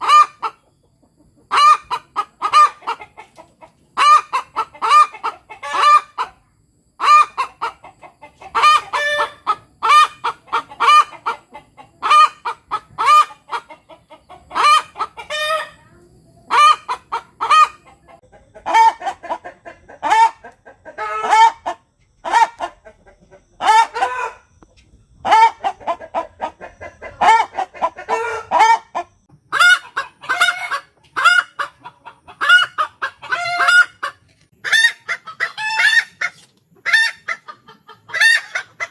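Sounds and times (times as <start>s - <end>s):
hen cackling: 0.0s - 24.5s, 25.2s - 38.9s.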